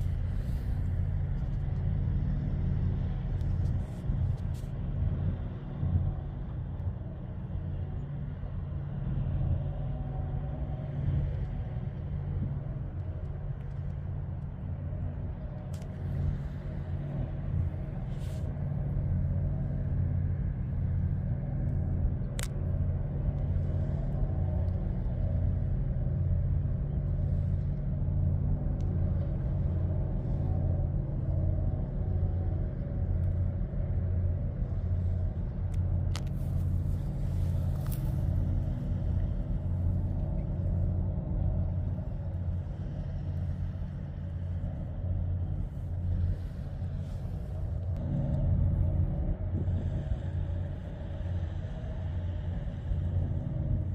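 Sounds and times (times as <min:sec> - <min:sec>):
ship engine rumble: 0:00.0 - 0:53.9.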